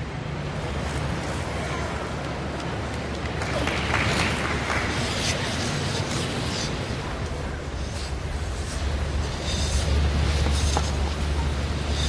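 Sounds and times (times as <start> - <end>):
murmur of arena crowd: 0.0 - 12.0.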